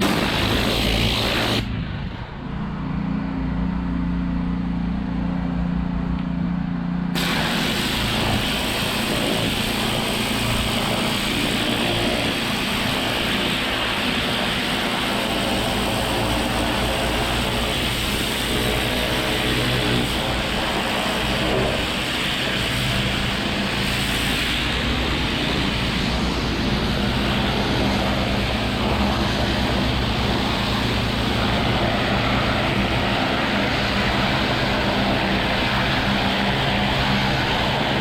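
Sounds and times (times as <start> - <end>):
water spray hissing on brick: 0.0 - 1.7, 7.2 - 38.0
pressure washer engine hum: 0.0 - 38.0.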